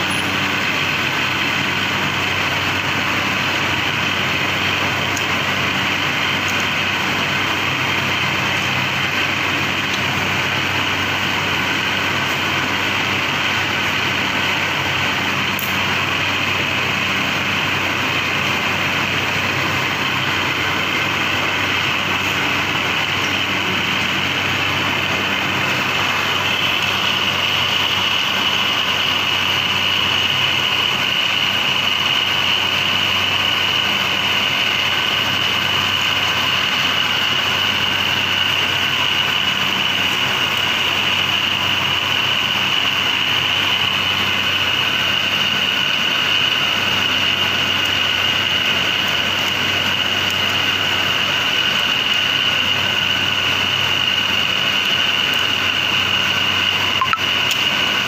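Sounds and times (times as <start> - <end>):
machine high whine: 0.0 - 58.0.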